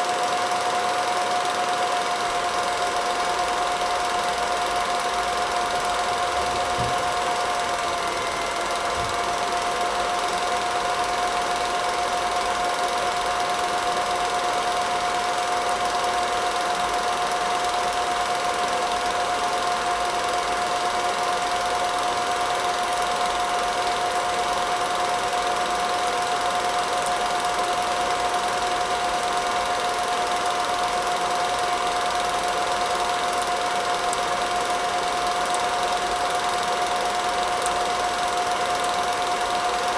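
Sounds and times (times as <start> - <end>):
film projector rattle and whine: 0.0 - 39.9.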